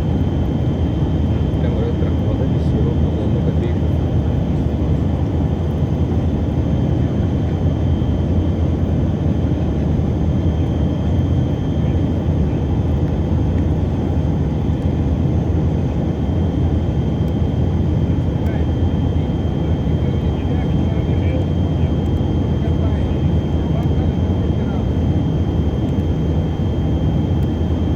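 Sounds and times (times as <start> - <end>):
airliner cabin low roar: 0.0 - 27.9.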